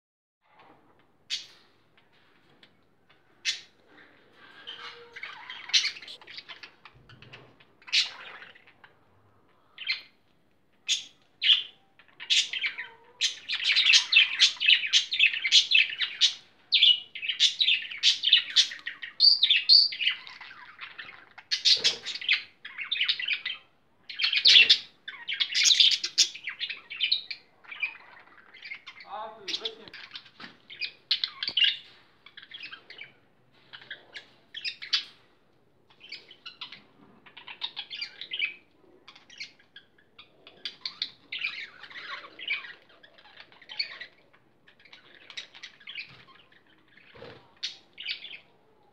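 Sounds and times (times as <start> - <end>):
budgerigars chirping and chattering: 3.4 - 9.0, 10.8 - 35.3, 35.9 - 48.6.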